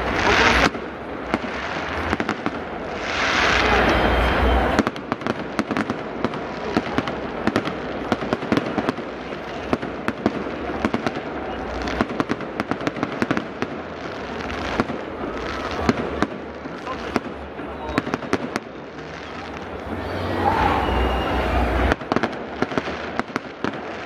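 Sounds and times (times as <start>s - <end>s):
distant fireworks cracking: 0.0s - 24.0s
heavy fireworks bangs: 0.0s - 24.0s.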